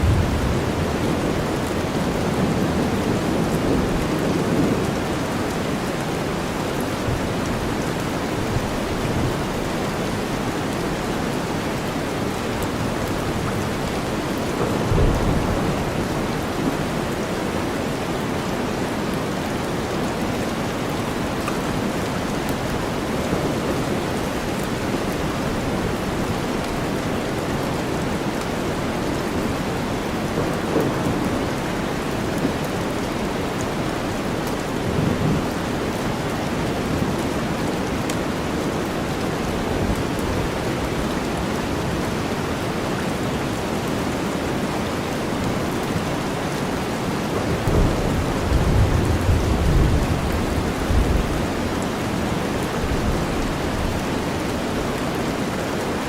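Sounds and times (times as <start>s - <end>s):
dense rainstorm: 0.0s - 56.0s.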